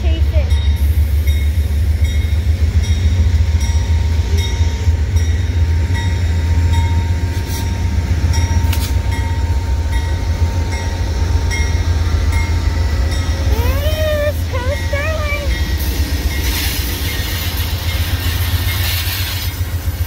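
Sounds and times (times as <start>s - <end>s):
locomotive engine rumble: 0.0s - 20.0s
train wheels clicking: 0.0s - 20.0s.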